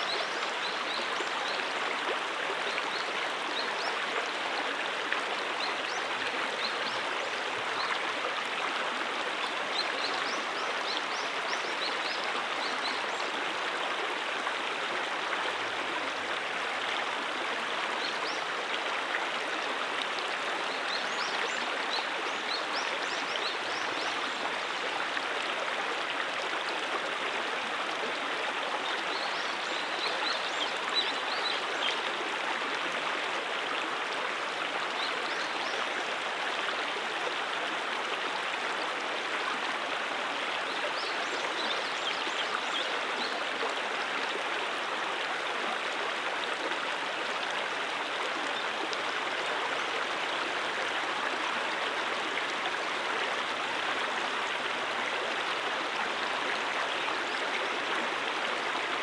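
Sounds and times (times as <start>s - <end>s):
creek water running over rocks: 0.0s - 59.0s.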